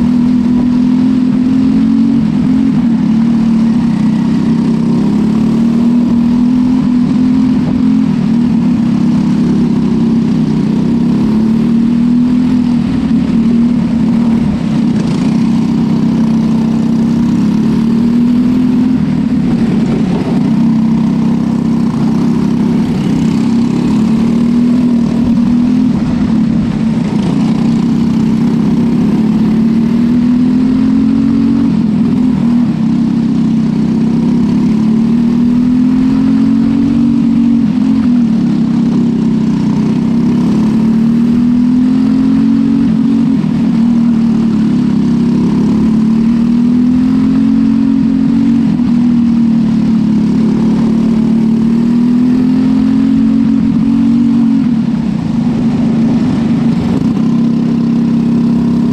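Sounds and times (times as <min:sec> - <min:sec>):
racing car engine: 0:00.0 - 0:58.9.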